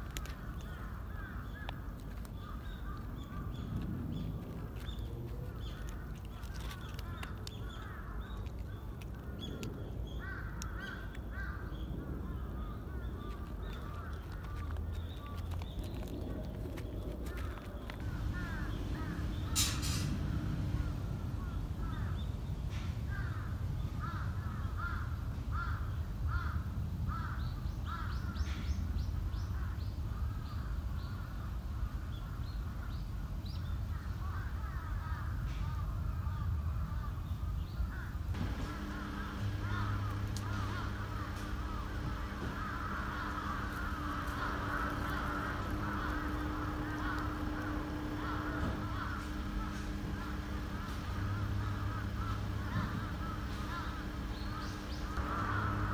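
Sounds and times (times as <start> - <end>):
birds calling: 0.0 - 55.9
steady low hum: 0.0 - 55.9.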